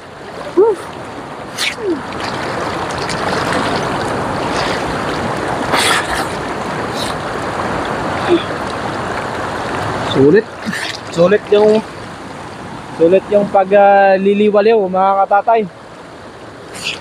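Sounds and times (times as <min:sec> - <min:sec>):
water splashes: 0:00.0 - 0:14.0
river rushing over stones: 0:00.0 - 0:14.4.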